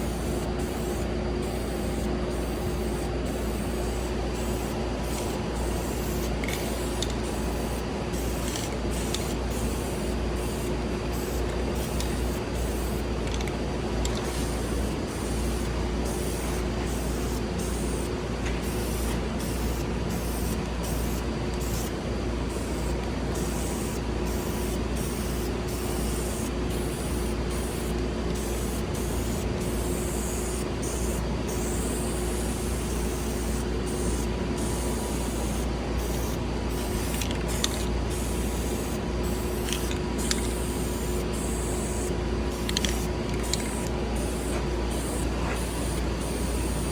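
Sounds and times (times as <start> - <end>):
spray paint hissing: 0.0 - 21.9, 22.5 - 46.9
steady hum: 0.0 - 46.9.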